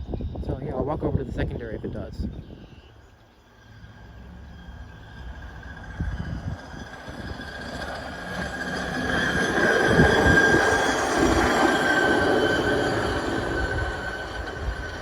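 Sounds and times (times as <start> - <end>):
rail vehicle rolling past: 2.3 - 15.0.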